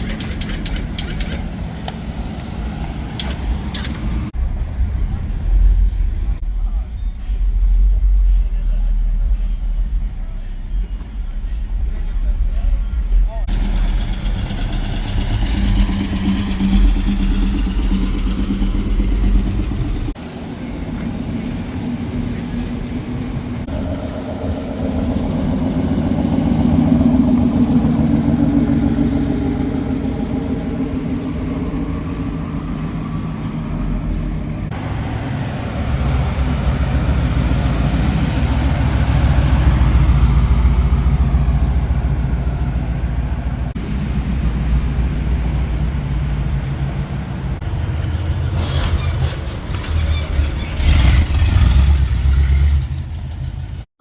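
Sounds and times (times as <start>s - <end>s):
cars driving past: 0.0s - 53.8s.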